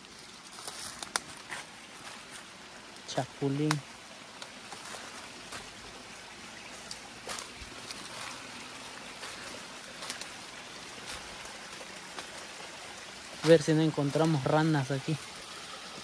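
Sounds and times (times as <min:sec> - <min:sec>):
creek trickling: 0:00.0 - 0:16.0
footsteps on leafy path: 0:00.1 - 0:03.0, 0:03.6 - 0:14.6.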